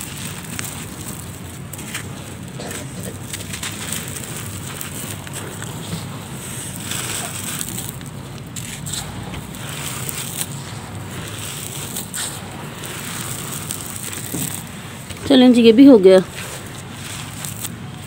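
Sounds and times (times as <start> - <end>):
gritty crackle: 0.0 - 18.0
hands crumbling dried mud: 0.0 - 18.0.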